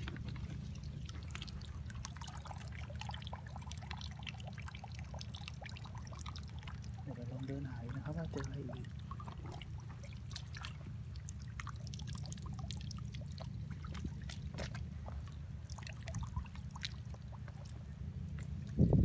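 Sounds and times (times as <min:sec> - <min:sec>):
seawater trickling and splashing: 0:00.0 - 0:19.0.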